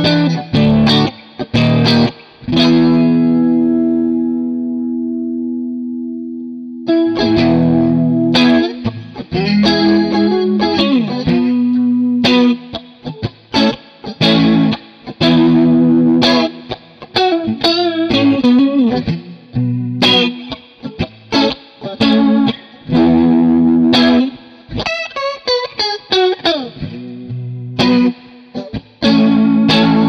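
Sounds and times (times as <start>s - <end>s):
electric guitar with rotary speaker swirl: 0.0s - 30.0s.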